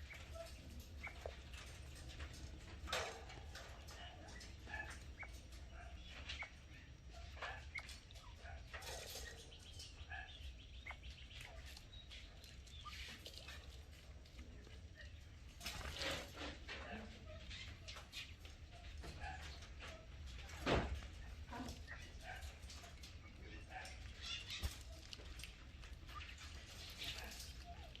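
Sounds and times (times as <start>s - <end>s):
quails chirping and peeping: 0.0s - 28.0s.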